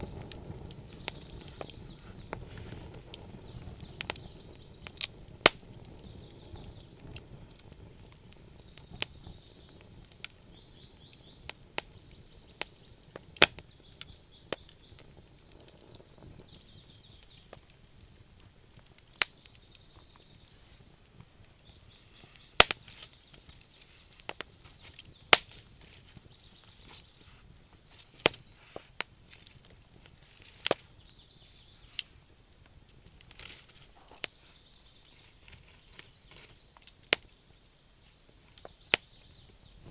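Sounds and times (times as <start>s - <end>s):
faint hiss: 0.0s - 39.9s
wood fire crackling and popping: 0.0s - 39.9s.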